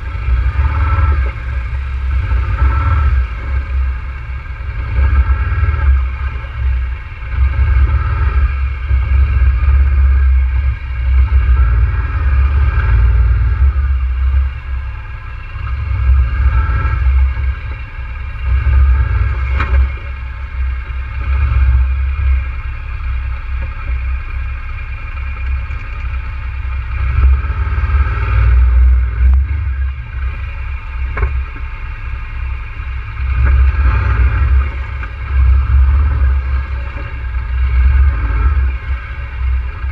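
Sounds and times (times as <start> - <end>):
atv engine idling: 0.0 - 39.9
low uneven rumble: 0.0 - 39.9.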